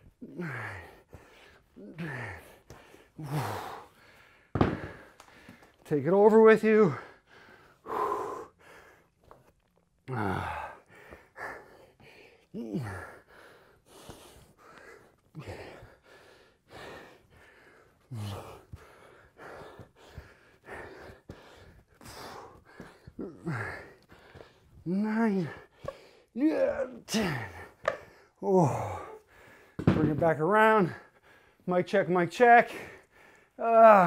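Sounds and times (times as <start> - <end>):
man breathing hard: 0.0 - 5.9, 6.6 - 29.9, 30.8 - 31.7, 32.7 - 34.0.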